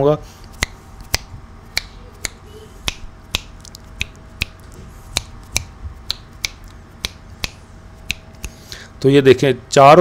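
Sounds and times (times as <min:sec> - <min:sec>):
finger snaps: 0:00.4 - 0:08.8.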